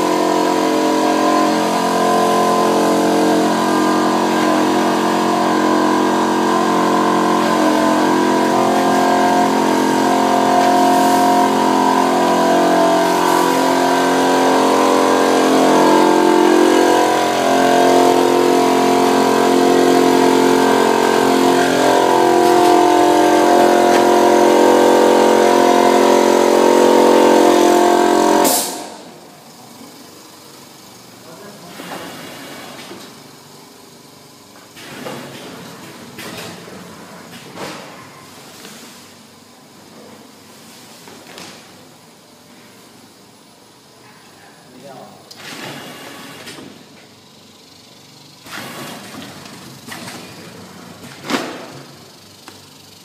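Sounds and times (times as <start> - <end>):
machine humming: 0.0 - 38.1, 41.7 - 53.0.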